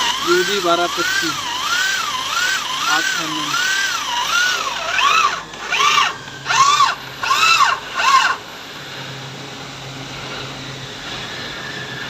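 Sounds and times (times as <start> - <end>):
power drill motor whining: 0.0 - 12.0.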